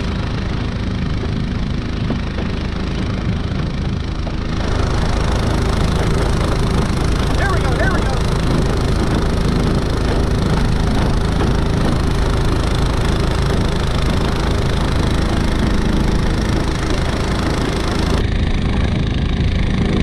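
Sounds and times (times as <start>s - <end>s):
boat motor running steadily: 0.0s - 20.0s.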